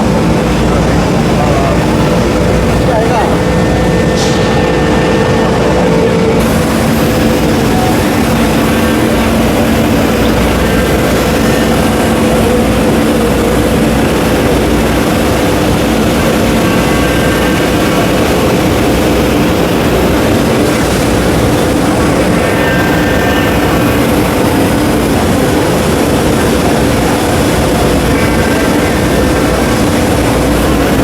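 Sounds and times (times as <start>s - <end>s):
router machine drone: 0.0s - 31.0s.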